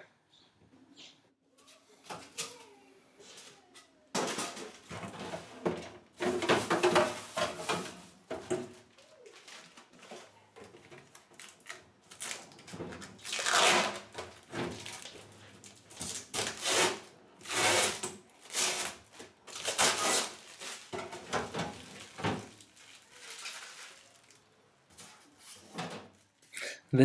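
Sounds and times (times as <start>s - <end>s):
refrigerator parts rubbing and rustling: 3.2s - 26.4s.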